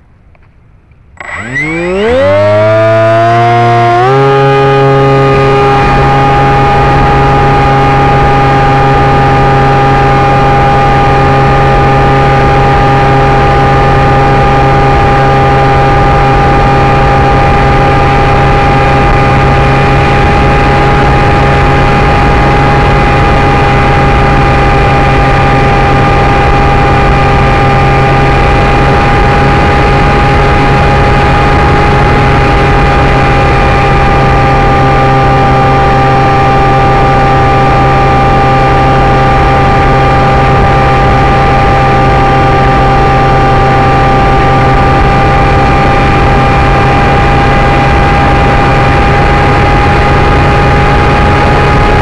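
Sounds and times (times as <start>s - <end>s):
electric motor and propeller whine: 0.0s - 52.0s.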